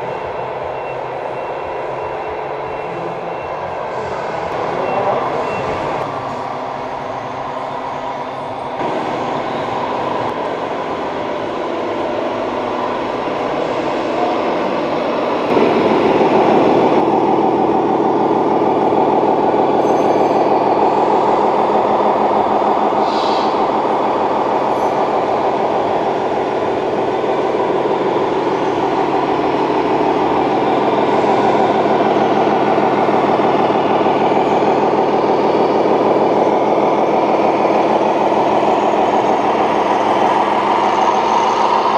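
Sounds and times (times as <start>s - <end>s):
simulated diesel truck engine: 0.0s - 41.9s.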